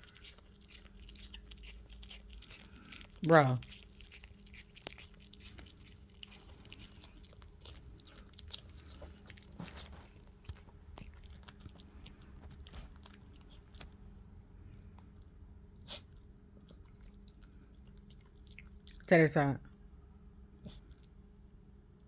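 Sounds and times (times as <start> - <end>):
apple being chewed: 0.0 - 19.1, 20.6 - 21.3.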